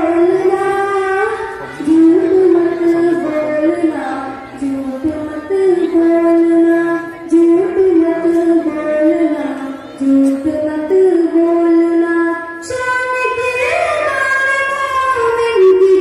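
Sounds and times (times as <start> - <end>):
girls singing devotional song: 0.0 - 16.0.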